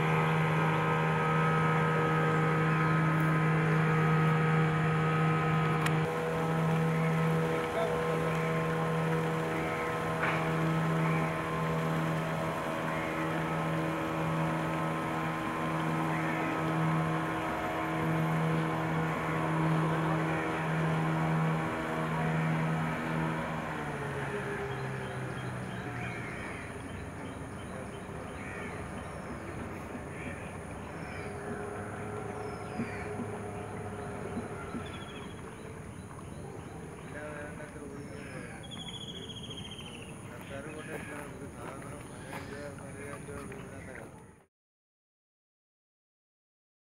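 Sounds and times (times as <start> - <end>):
birds calling: 0.0 - 44.4
small boat engine running: 0.0 - 44.5.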